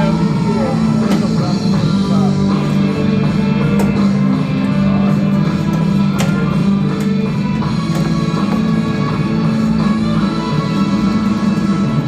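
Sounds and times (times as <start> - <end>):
rock music with guitar on radio: 0.0 - 12.0.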